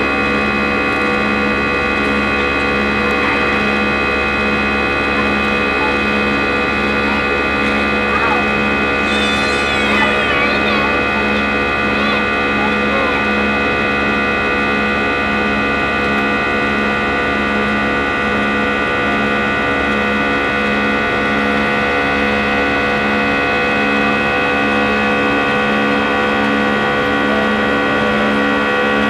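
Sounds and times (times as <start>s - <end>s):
constant whining tones: 0.0s - 29.0s
jet engine roar in cabin: 0.0s - 29.0s.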